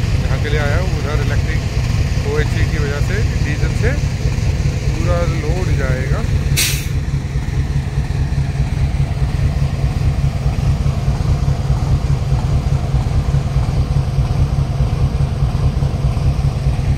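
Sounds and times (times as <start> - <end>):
locomotive diesel engine idling: 0.0 - 16.9.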